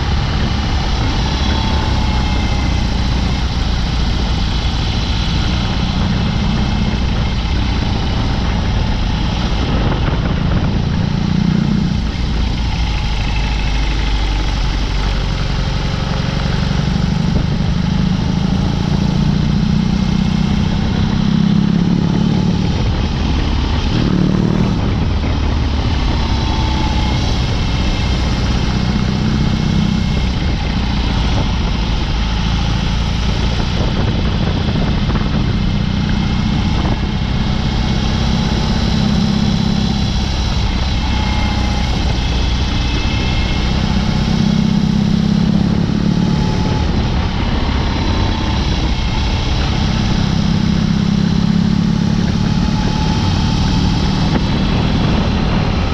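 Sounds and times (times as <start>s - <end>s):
motorcycle engine while riding: 0.0s - 55.9s.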